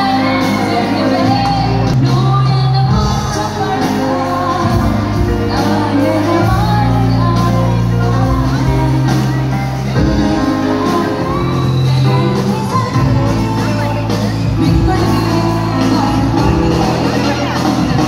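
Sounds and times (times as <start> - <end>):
drums: 0.0 - 18.0
keyboard: 0.0 - 18.0
woman singing into microphone: 0.0 - 18.0.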